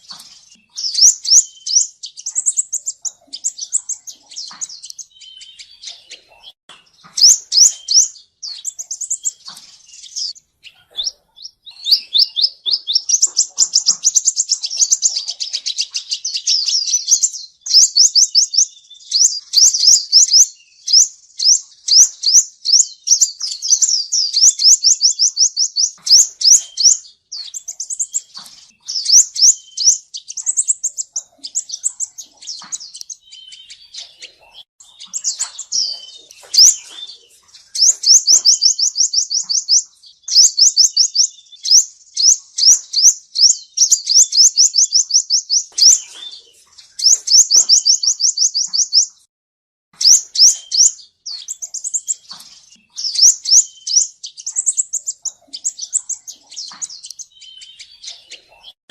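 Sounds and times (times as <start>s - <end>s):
bird singing fast trills: 0.0s - 49.3s, 50.0s - 58.8s.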